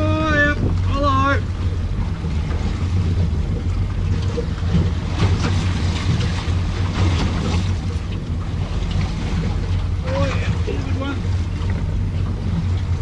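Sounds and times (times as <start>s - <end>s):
steady low hum: 0.0s - 13.0s
water washing against boat hull: 0.0s - 13.0s
wind buffeting microphone: 0.0s - 13.0s.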